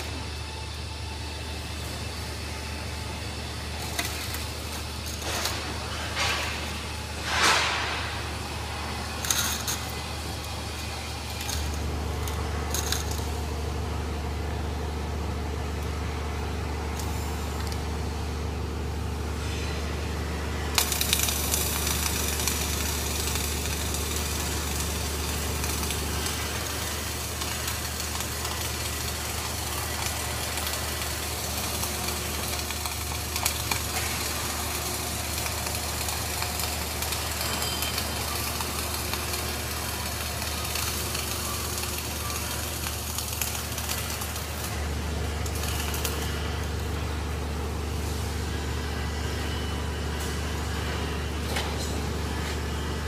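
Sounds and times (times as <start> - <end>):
low machinery hum: 0.0 - 53.0
welding arc crackling hiss: 0.0 - 53.0.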